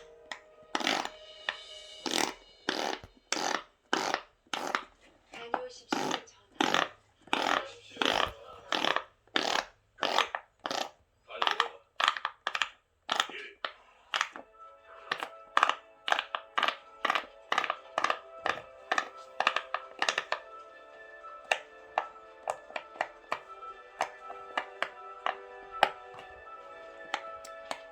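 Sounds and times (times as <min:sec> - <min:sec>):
fidget toy bubbles popping: 0:00.0 - 0:14.5, 0:15.1 - 0:20.6, 0:21.4 - 0:26.4.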